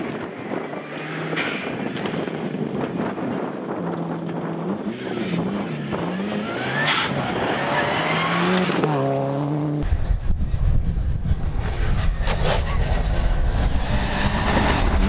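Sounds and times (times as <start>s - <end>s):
rally car engine revving: 0.1s - 10.0s, 11.3s - 15.0s.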